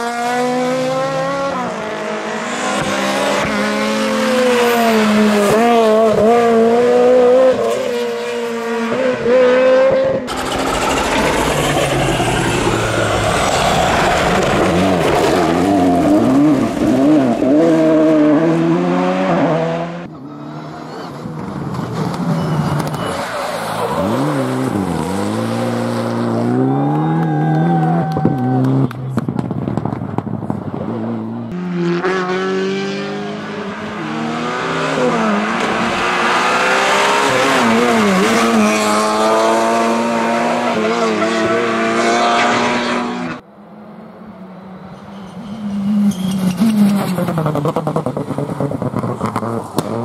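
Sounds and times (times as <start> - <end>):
rally car engines revving: 0.0 - 43.4, 44.2 - 50.0.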